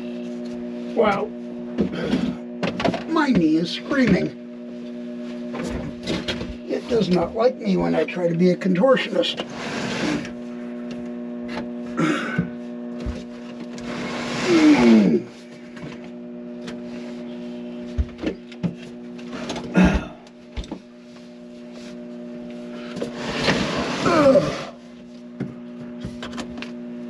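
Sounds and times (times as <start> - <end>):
steady electrical hum: 0.0 - 27.0.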